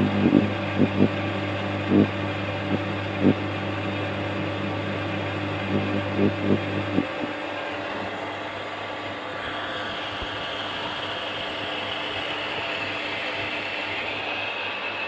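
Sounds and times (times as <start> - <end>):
electric water pump humming and whining: 0.0 - 15.0.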